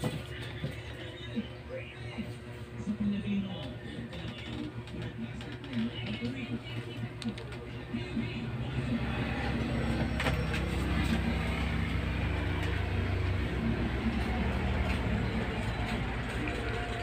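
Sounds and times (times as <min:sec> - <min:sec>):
low engine rumble: 0:00.2 - 0:17.0.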